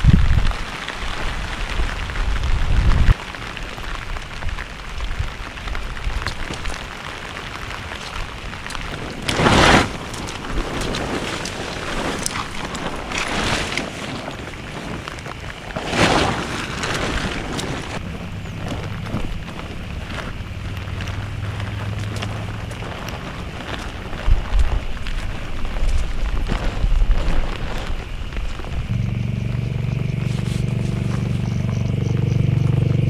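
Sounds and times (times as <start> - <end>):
steady rain: 0.0 - 33.0
wind: 0.0 - 33.0
raindrops ticking: 0.3 - 33.0.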